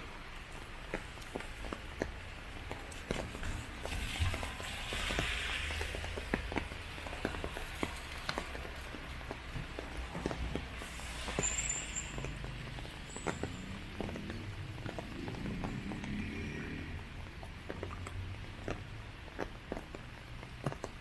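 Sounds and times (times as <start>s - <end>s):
rain: 0.0s - 19.4s
footsteps on wet pavement: 0.0s - 21.0s.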